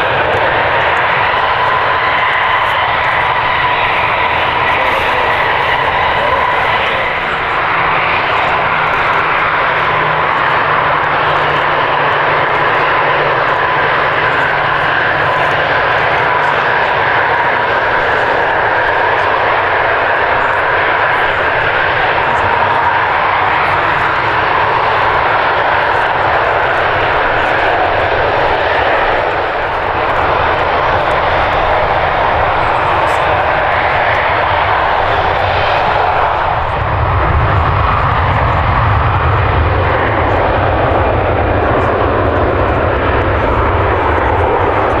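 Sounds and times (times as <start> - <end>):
high whine: 0.0 - 45.0
jet engines roaring: 0.0 - 45.0.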